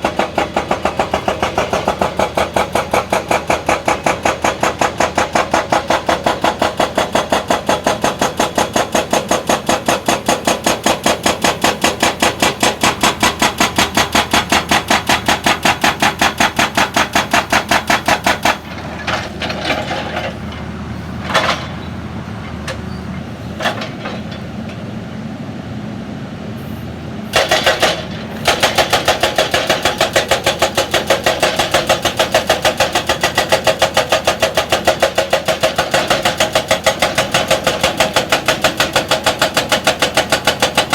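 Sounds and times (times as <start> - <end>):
hydraulic rock breaker hammering: 0.0 - 24.8, 27.3 - 40.9
diesel engine running: 0.0 - 40.9.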